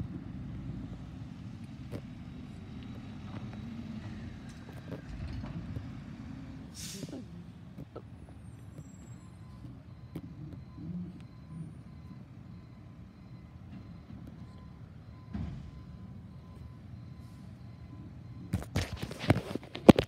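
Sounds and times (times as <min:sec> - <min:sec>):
garbage truck diesel rumble: 0:00.0 - 0:19.8.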